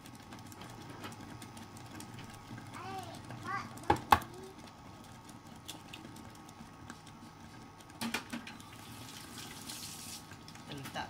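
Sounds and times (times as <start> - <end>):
oats simmering bubbling: 0.0 - 11.0.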